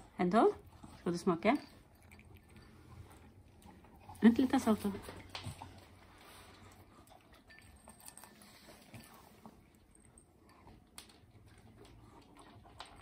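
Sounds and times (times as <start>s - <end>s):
puppy chewing food: 0.6s - 13.0s.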